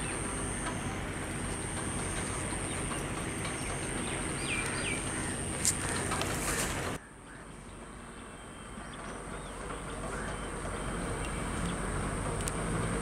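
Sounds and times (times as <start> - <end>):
high constant whine: 0.0 - 13.0
train hum and hiss: 0.0 - 13.0.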